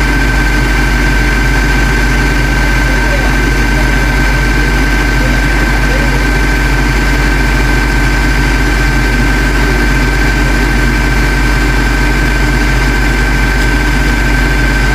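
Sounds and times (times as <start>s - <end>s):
thin engine whine: 0.0s - 14.9s
truck engine running: 0.0s - 14.9s.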